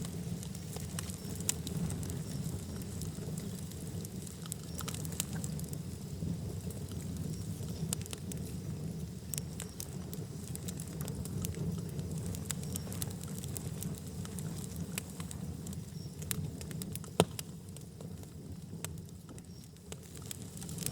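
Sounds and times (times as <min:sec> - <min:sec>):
fire crackling: 0:00.0 - 0:20.9
fire popping: 0:00.0 - 0:20.9
low rumble of flames: 0:00.0 - 0:20.9.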